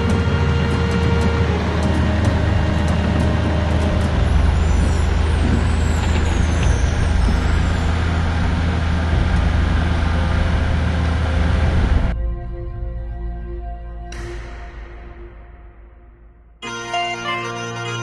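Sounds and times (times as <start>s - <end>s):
large engine droning: 0.0s - 18.0s.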